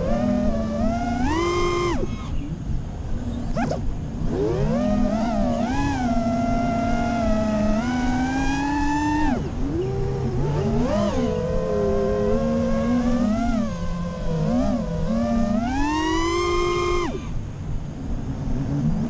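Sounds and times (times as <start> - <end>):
quadcopter motors whining: 0.0 - 17.5.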